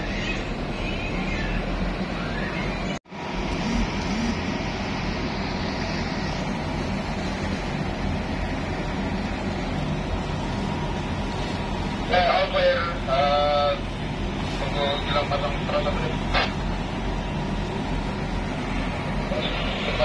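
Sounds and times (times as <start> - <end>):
boat engine low drone: 0.0 - 20.0.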